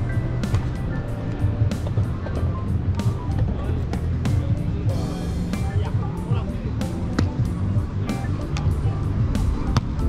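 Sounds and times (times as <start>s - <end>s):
background music with drums and bass: 0.0s - 10.0s.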